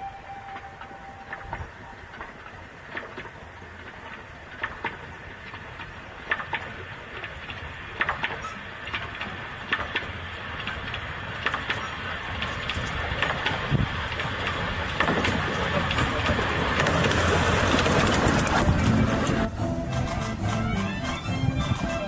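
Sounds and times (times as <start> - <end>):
steam train passing: 0.0 - 22.0
train wheels clicking on track: 0.0 - 22.0.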